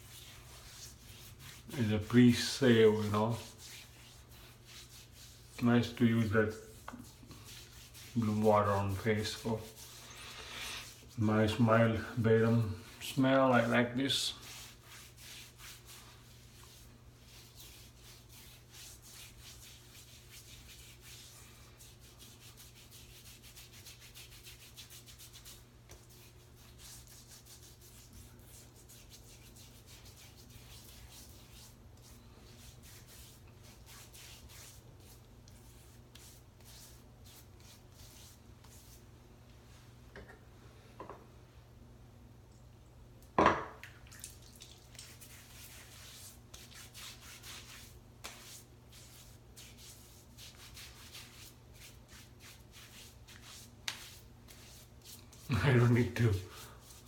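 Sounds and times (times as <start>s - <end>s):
hands rubbing soap on skin: 0.0s - 39.1s, 44.1s - 57.0s.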